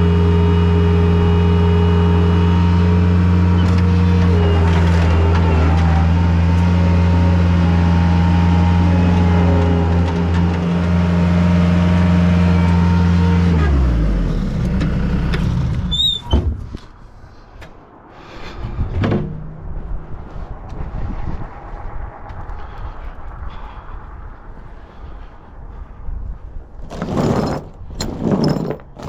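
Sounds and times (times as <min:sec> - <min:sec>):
engine idling and winding down: 0:00.0 - 0:16.1, 0:16.9 - 0:27.5.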